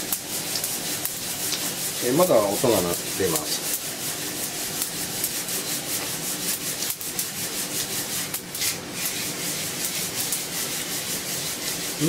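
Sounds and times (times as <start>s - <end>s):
coffee beans rattling in roaster: 0.0s - 12.0s.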